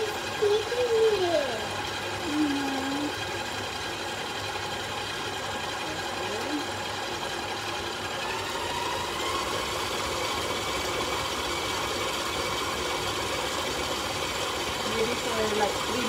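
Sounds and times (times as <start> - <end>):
stand mixer motor running: 0.0 - 16.0.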